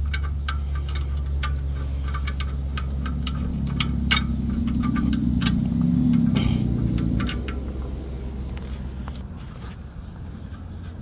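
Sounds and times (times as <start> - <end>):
low engine-like hum: 0.0 - 11.0.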